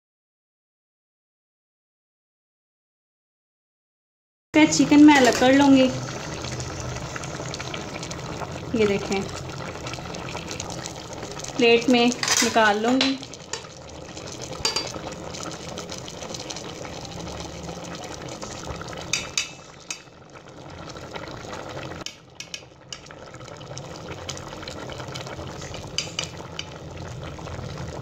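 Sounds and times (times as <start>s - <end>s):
pot boiling and bubbling: 4.6s - 28.0s.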